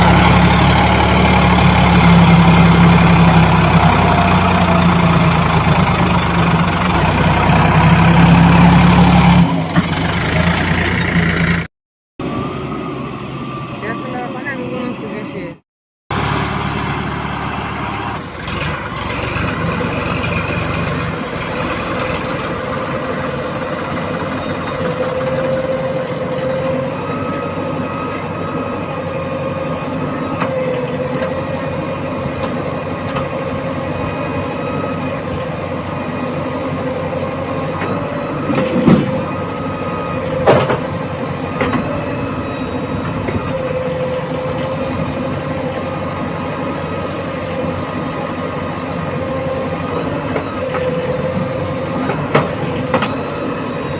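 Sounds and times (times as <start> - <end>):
diesel machinery engine running: 0.0 - 53.9.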